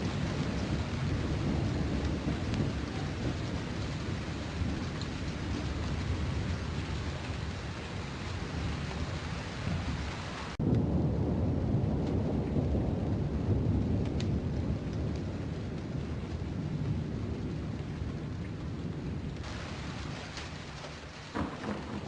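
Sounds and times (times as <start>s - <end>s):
low rolling thunder: 0.0s - 22.0s
steady rain: 0.0s - 22.0s.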